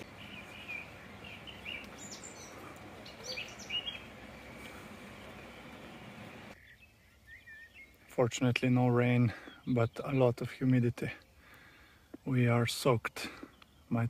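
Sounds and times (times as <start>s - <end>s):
outdoor background hiss: 0.0s - 14.0s
small birds chirping: 0.0s - 14.0s.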